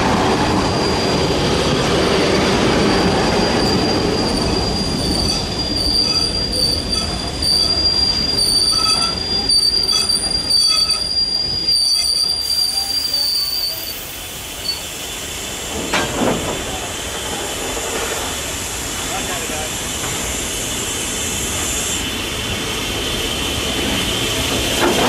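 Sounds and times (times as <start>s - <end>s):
train rolling rumble: 0.0s - 25.0s
train wheels squealing on rails: 0.0s - 25.0s.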